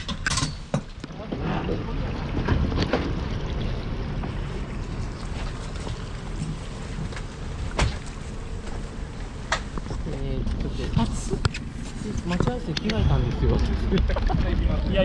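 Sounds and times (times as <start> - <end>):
outboard motor running: 1.1 - 15.0.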